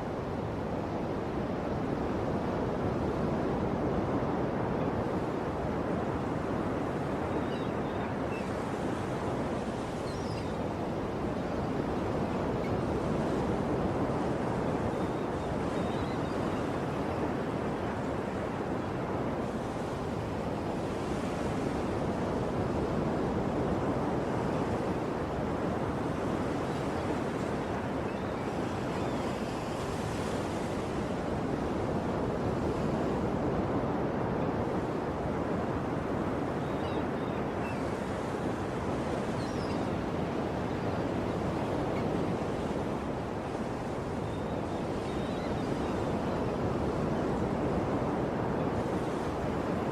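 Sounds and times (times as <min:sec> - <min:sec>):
ocean waves washing onto shore: 0:00.0 - 0:49.9.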